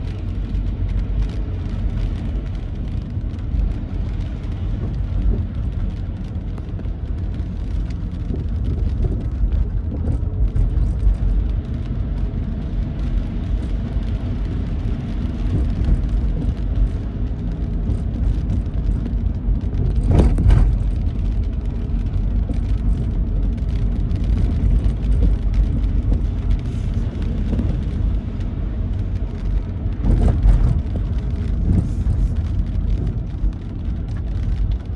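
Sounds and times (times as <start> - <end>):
vehicle on wet road rumble: 0.0 - 34.9.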